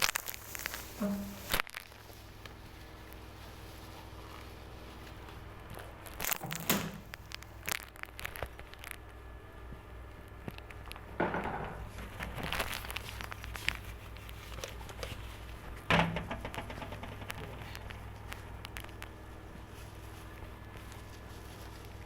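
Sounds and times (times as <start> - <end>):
crinkling crackling handling noises: 0.0 - 22.0
steady low hum: 0.0 - 22.0.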